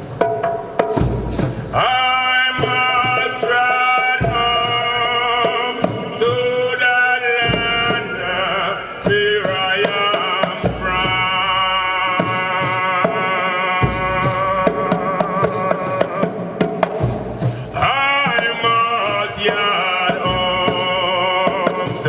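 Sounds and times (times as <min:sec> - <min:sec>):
shakers: 0:00.8 - 0:02.0, 0:02.6 - 0:13.1, 0:13.8 - 0:22.0
man singing and chanting: 0:01.4 - 0:22.0.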